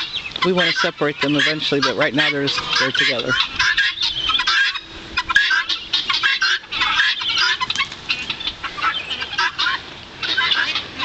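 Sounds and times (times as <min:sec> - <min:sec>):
guinea fowl calling: 0:00.0 - 0:11.0.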